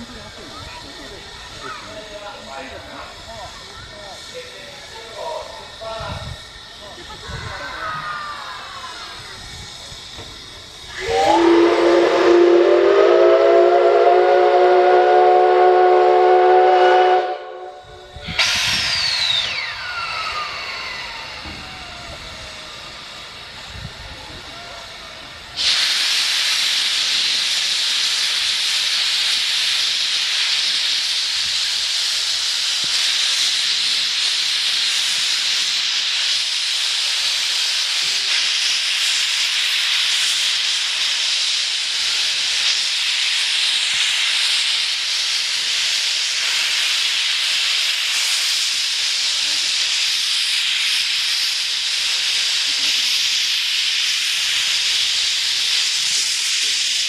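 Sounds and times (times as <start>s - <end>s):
steam locomotive venting steam: 0.0s - 57.0s.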